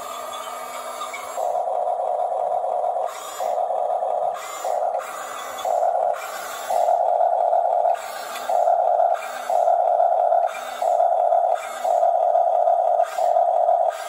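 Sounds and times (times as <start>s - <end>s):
toy bulldozer motors whining: 0.0s - 14.0s.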